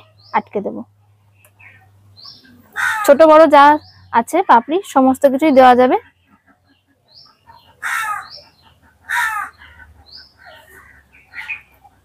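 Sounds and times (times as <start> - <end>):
loud bird calls: 0.0 - 12.0
small birds chirping: 0.0 - 12.0.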